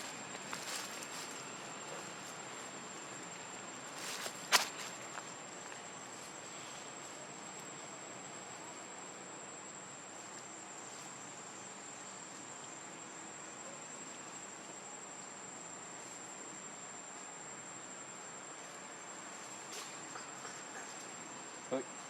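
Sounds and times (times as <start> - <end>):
soft hiss: 0.0 - 22.0.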